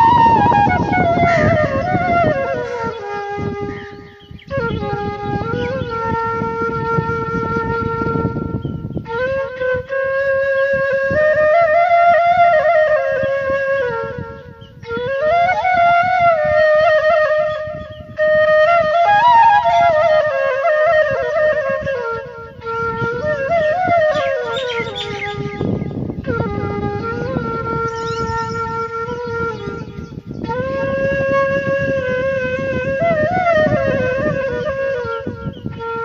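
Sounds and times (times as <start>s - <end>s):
flute-like woodwind melody: 0.0s - 36.0s.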